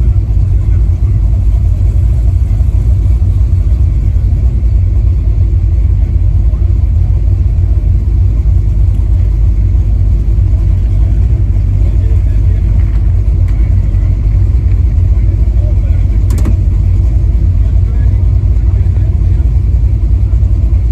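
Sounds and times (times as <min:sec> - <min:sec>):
pickup engine rumbling: 0:00.0 - 0:20.9.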